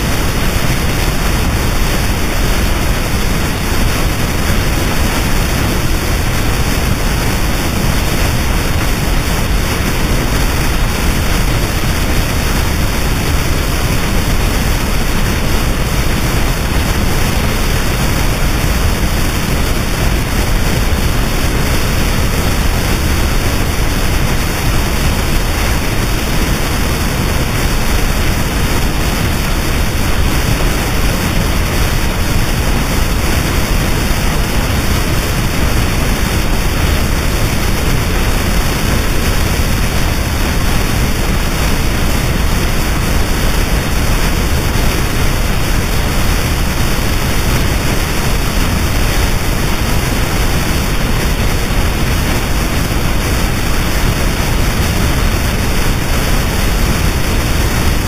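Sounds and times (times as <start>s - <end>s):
dense static noise wall: 0.0s - 58.0s.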